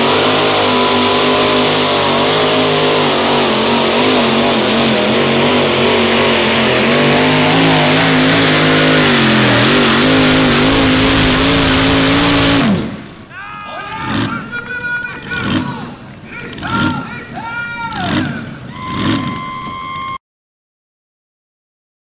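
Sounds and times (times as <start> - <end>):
tractor engine at full throttle: 0.0 - 20.2.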